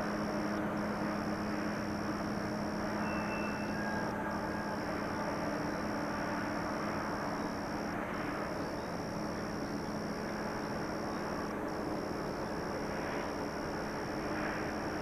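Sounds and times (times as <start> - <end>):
distant diesel locomotive drone: 0.0 - 15.0.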